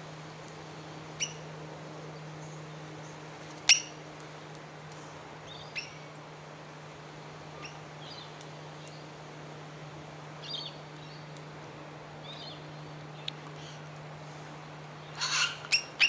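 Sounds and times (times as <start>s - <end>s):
steady low hum: 0.0s - 16.0s
birds chirping faintly: 0.4s - 16.0s.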